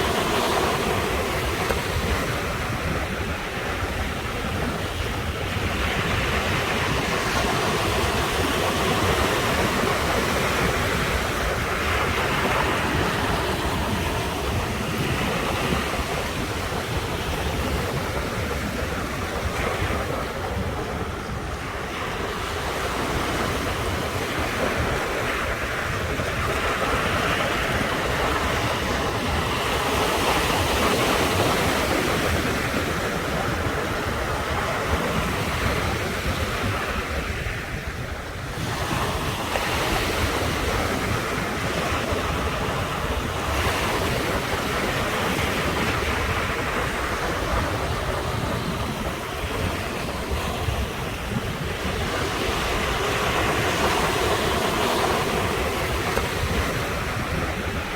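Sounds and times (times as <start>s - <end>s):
ocean waves breaking on shore: 0.0s - 57.9s
wind buffeting microphone: 0.0s - 57.9s.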